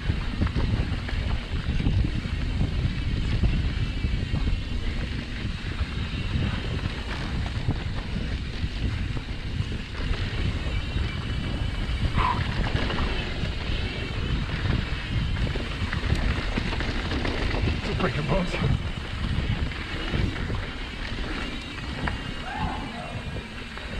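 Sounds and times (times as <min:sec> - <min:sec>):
bike tyres rumbling on dirt: 0:00.0 - 0:23.9
wind buffeting microphone: 0:00.0 - 0:23.9.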